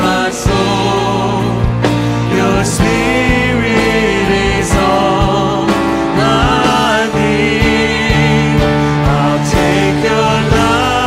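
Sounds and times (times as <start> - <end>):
instrumental accompaniment with drums: 0.0 - 11.0.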